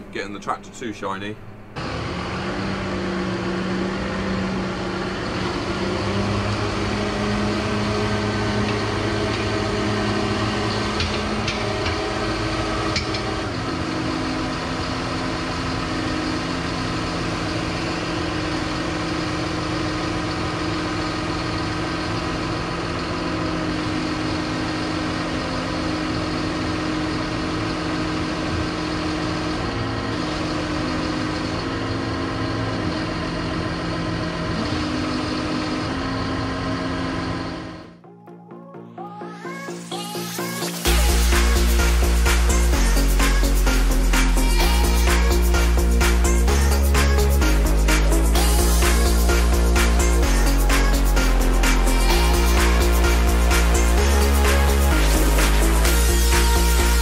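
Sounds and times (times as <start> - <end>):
tractor diesel engine running: 0.0 - 38.0, 39.7 - 57.0.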